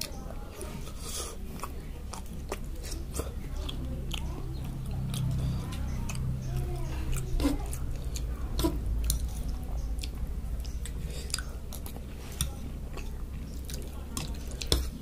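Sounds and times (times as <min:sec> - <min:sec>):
low steady hum: 0:00.0 - 0:15.0
person chewing noodles: 0:00.0 - 0:15.0.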